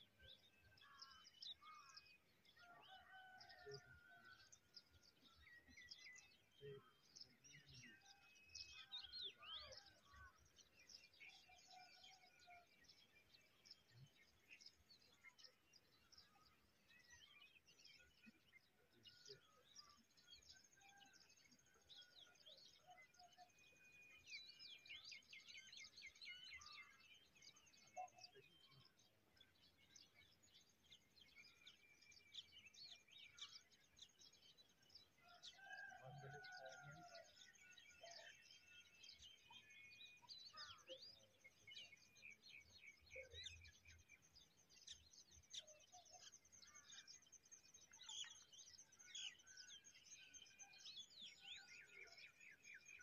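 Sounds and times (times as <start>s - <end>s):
small birds chirping and twittering: 0.0s - 53.0s.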